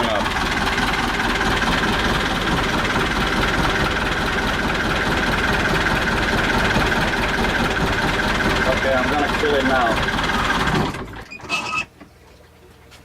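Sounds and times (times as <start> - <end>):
diesel engine running: 0.0 - 11.3.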